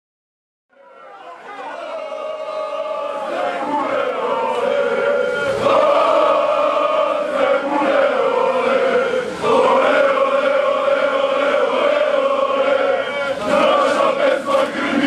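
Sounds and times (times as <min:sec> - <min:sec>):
crowd chanting a song: 0:00.7 - 0:15.0.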